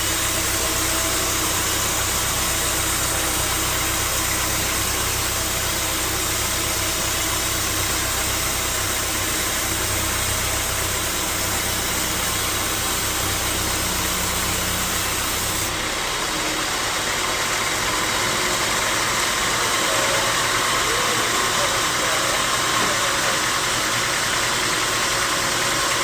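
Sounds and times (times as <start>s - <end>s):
sawmill machinery hum: 0.0s - 26.0s.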